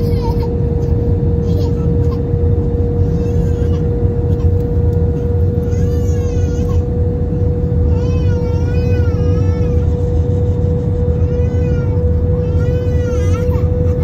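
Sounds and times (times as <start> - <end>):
baby crying: 0.0 - 2.3, 3.0 - 7.0, 7.8 - 14.0
airplane cabin engine hum: 0.0 - 14.0.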